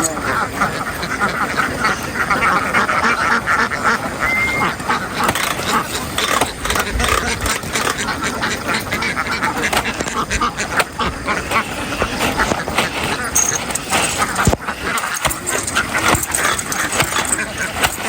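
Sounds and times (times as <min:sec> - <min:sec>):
flock of ducks quacking: 0:00.0 - 0:18.0.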